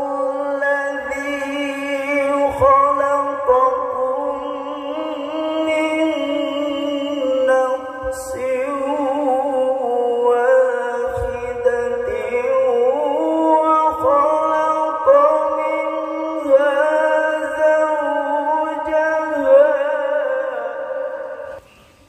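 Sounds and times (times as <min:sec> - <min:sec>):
man reciting melodically: 0:00.0 - 0:21.7.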